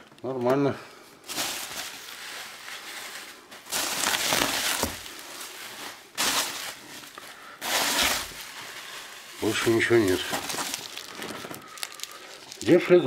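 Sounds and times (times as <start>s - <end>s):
bubble wrap rustling and crinkling: 1.2s - 13.0s.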